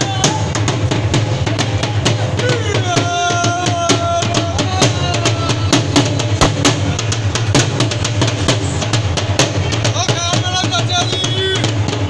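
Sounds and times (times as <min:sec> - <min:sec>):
barrel drum played with sticks: 0:00.0 - 0:12.0.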